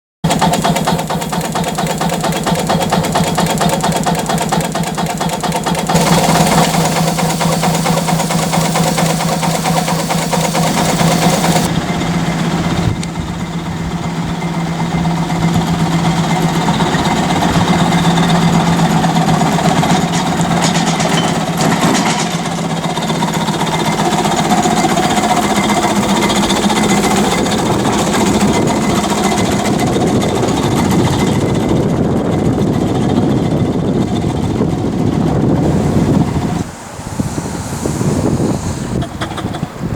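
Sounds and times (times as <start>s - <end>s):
steam tractor running: 0.2s - 37.0s.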